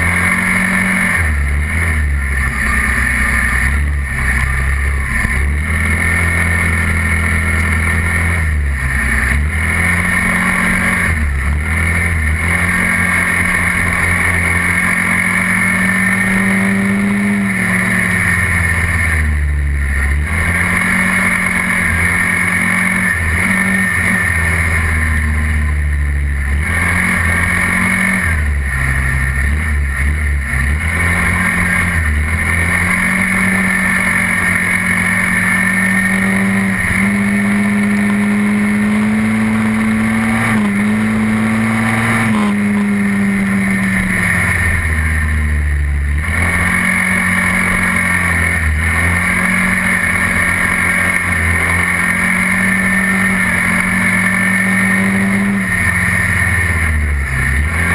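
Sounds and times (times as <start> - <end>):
quad bike engine running: 0.0 - 57.9
wind and road noise: 0.0 - 57.9.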